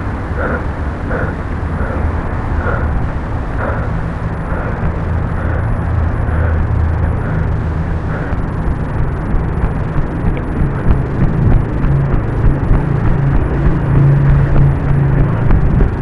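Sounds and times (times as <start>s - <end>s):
faint regular bumps: 0.0s - 16.0s
wind rumble on microphone: 0.0s - 16.0s.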